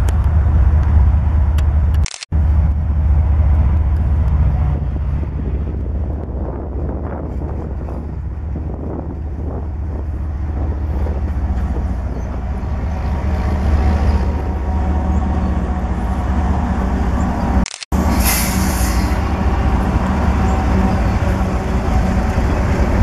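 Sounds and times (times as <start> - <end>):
locomotive engines rumbling: 0.0 - 23.0
train wheels on rails: 0.0 - 23.0.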